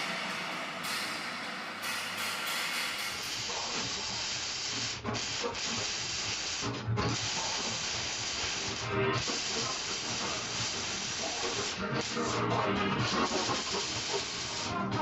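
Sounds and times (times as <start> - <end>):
loud steady hiss: 0.0 - 15.0.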